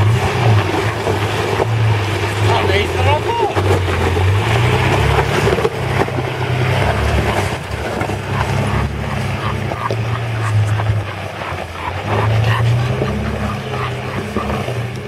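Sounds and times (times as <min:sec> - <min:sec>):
four-wheel drive engine running: 0:00.0 - 0:15.0.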